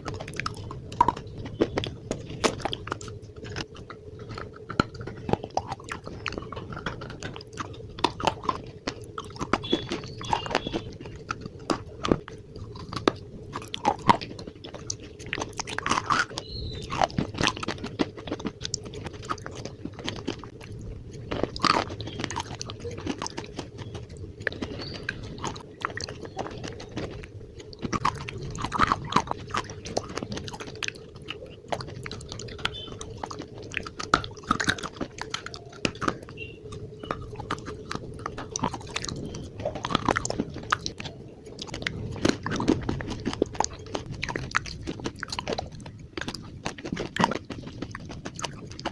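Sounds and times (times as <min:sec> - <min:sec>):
faint steady hum: 0:00.0 - 0:48.9
slate being chewed crunching: 0:00.0 - 0:48.9.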